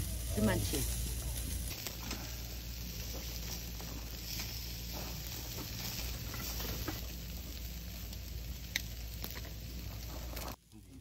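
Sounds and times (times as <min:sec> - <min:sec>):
fish sizzling on a grill: 0:00.0 - 0:11.0.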